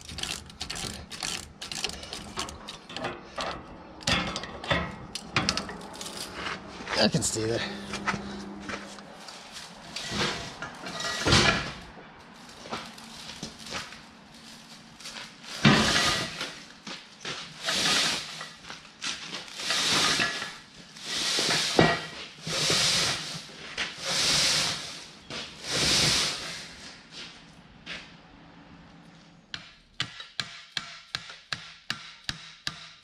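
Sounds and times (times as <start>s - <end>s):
broom bristles scraping concrete: 0.0s - 3.4s, 4.0s - 27.5s.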